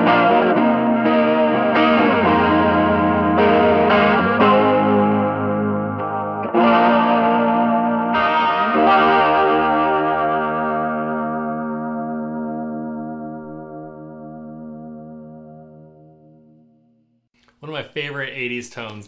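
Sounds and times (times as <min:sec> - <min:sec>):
electric guitar chords with chorus: 0:00.0 - 0:17.0.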